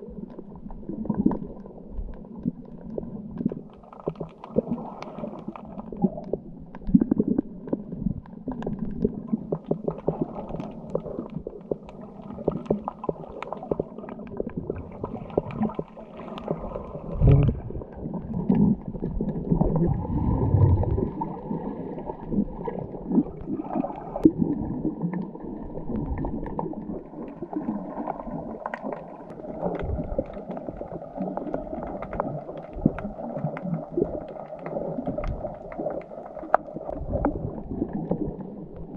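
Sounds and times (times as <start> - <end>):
small clicks and crackles: 0.0 - 20.0, 20.8 - 38.9
muffled underwater water noise: 0.0 - 38.9.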